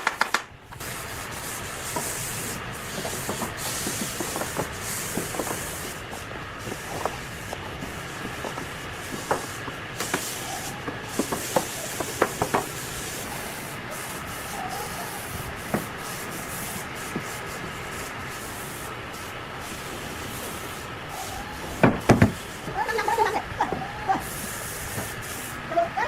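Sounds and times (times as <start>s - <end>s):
steady rubbing noise: 0.0s - 26.0s.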